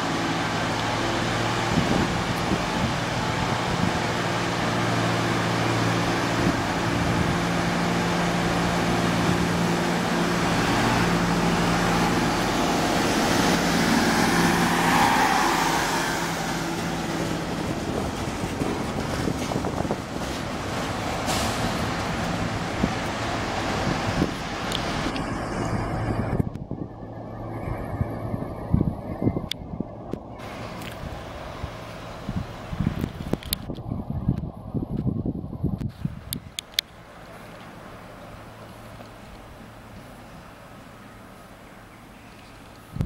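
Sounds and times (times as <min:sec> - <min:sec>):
railbus engine drone: 0:00.0 - 0:43.0
wheels rushing on rails: 0:00.0 - 0:43.0.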